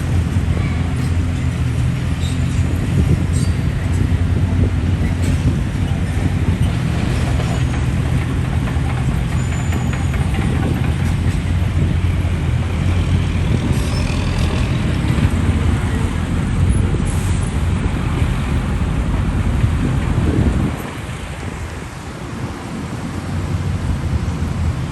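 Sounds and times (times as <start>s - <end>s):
diesel engine droning: 0.0s - 24.9s.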